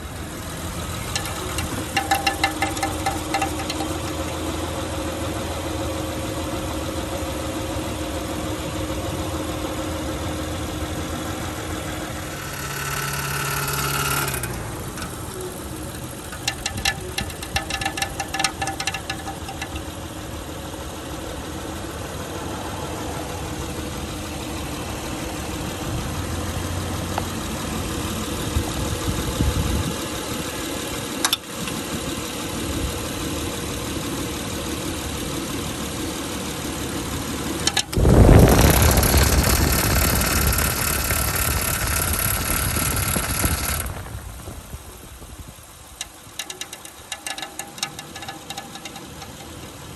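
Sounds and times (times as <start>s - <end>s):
car engine running: 0.0s - 49.9s
damaged cooling fan noise: 0.0s - 49.9s.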